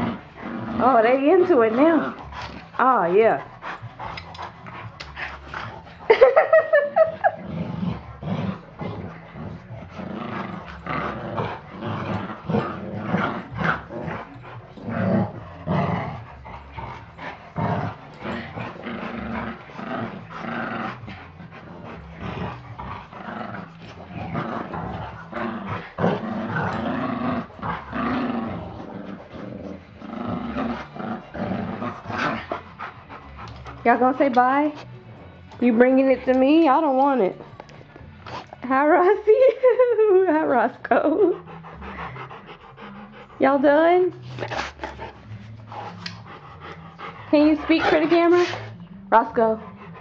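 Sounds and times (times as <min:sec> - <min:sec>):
dogs growling and snarling: 0:00.0 - 0:50.0.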